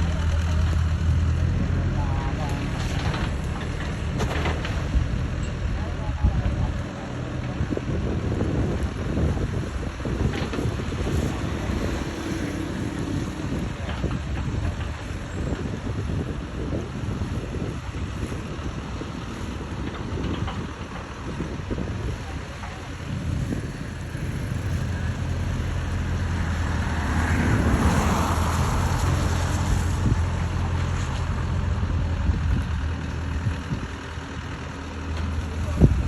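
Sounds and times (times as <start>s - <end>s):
excavator engine humming: 0.0s - 36.0s
wind buffeting microphone: 1.4s - 34.6s, 35.6s - 36.0s.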